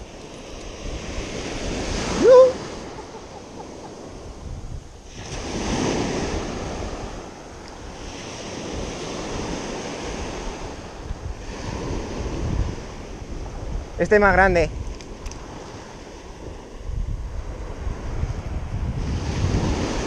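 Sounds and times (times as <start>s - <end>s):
sea waves breaking on shore: 0.0s - 20.0s
wind rumbling on microphone: 0.0s - 20.0s.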